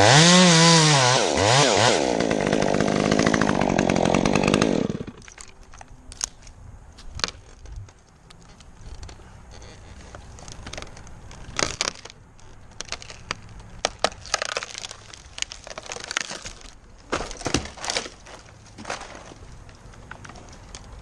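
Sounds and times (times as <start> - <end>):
twigs crackling and snapping: 2.7 - 21.0.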